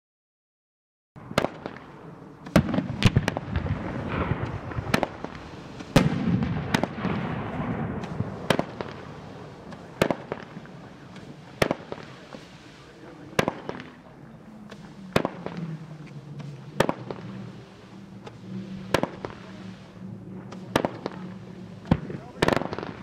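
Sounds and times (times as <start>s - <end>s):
fireworks sharp reports: 1.2s - 23.0s
hiss of burning shots: 1.2s - 23.0s.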